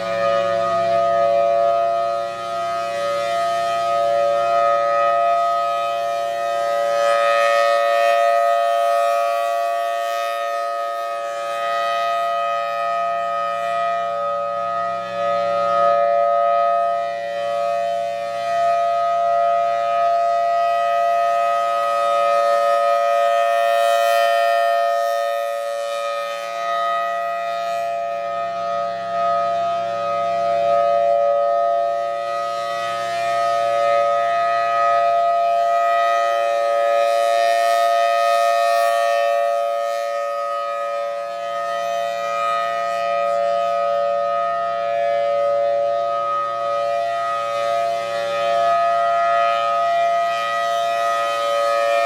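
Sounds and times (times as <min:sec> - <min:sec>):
steady-tone storm siren: 0:00.0 - 0:52.0.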